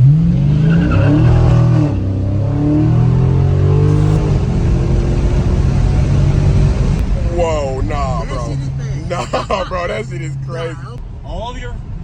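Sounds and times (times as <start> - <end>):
car engine accelerating hard: 0.0 - 11.1.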